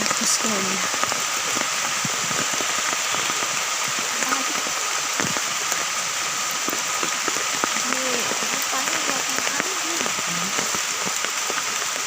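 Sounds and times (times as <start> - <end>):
close raindrop hits: 0.0 - 12.0
steady rain falling: 0.0 - 12.0.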